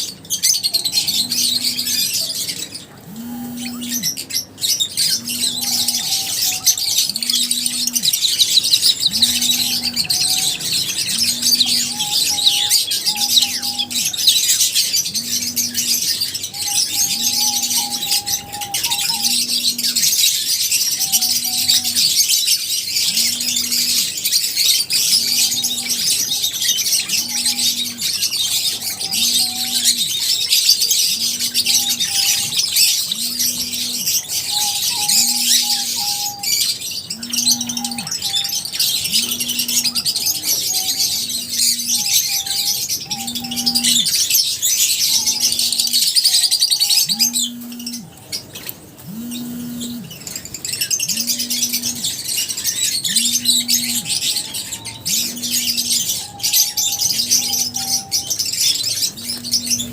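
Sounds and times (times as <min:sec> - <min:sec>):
flock of birds chirping: 0:00.0 - 0:59.9
pulsing low hum: 0:00.6 - 0:22.2, 0:23.0 - 0:24.2, 0:24.9 - 0:44.3, 0:45.1 - 0:46.0, 0:46.7 - 0:48.2, 0:49.0 - 0:59.9.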